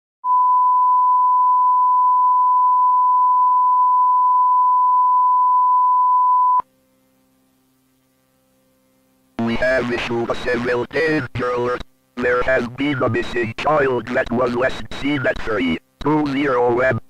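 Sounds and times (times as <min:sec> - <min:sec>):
faint low hum: 0:01.0 - 0:17.0.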